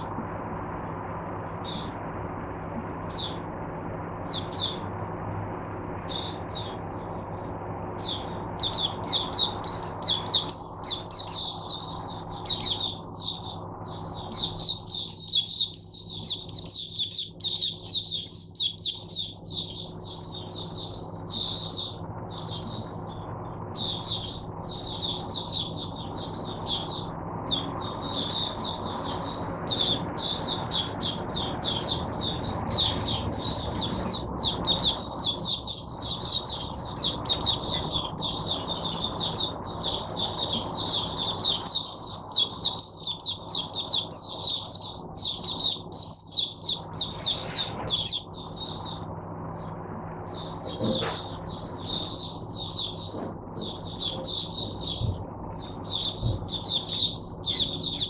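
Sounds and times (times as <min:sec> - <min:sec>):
bird twittering song: 0:01.5 - 0:02.0, 0:02.8 - 0:03.5, 0:04.2 - 0:05.1, 0:06.0 - 0:58.0.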